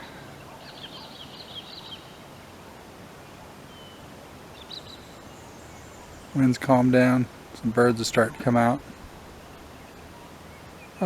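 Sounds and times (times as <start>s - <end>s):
birds chirping: 0.0s - 11.0s
outdoor background hiss: 0.0s - 11.0s.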